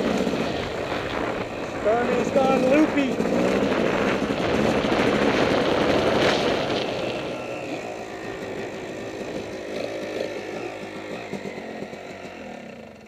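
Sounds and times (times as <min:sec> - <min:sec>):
dirt bike engine: 0:00.0 - 0:13.0.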